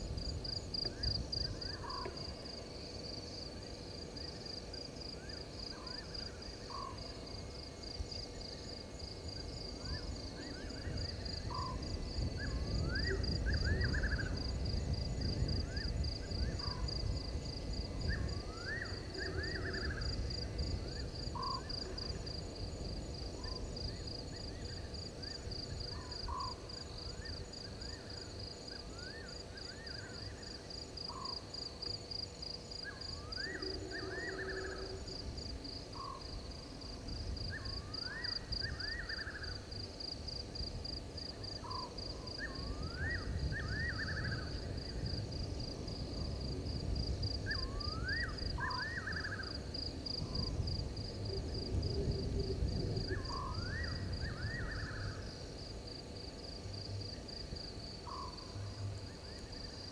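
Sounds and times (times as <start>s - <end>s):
insect trill: 0.0s - 59.9s.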